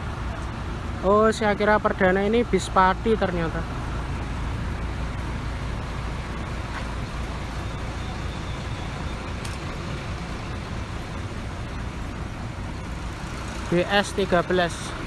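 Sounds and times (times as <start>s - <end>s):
rumble of road traffic: 0.0s - 15.0s.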